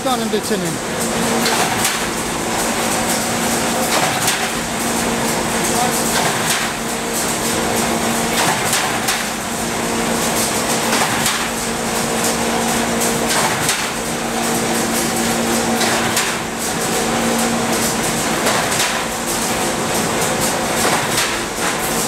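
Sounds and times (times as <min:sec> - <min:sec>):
welding machine humming: 0:00.0 - 0:22.0.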